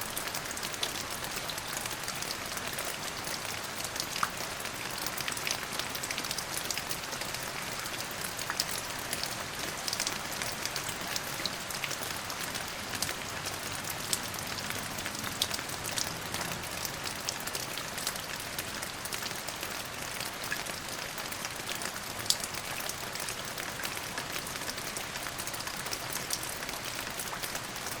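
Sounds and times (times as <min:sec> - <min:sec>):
steady rain hiss: 0:00.0 - 0:28.0
raindrops ticking on hard surface: 0:00.1 - 0:28.0.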